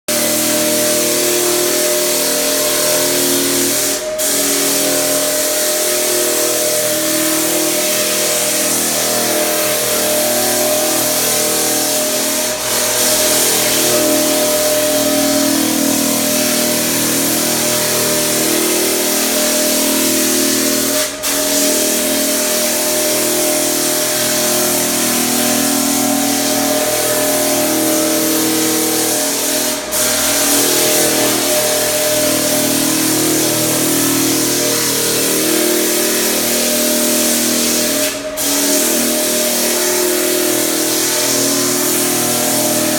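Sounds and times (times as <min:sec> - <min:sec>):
floor sander whirring: 0:00.1 - 0:42.9.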